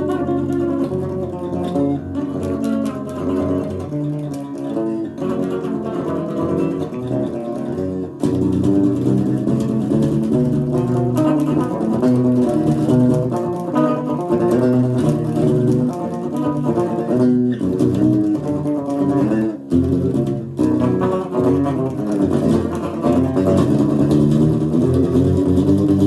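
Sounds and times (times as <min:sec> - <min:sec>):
unplugged guitar metal riff: 0:00.0 - 0:26.0.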